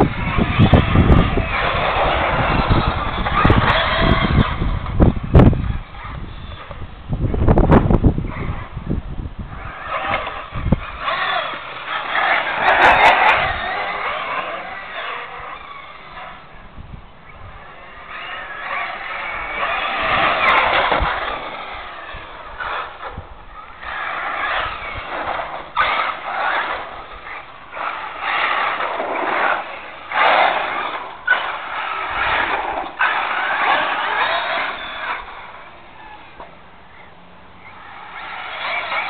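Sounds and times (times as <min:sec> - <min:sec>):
toy car electric motor whining: 0:00.0 - 0:06.8, 0:09.5 - 0:16.6, 0:17.3 - 0:39.0.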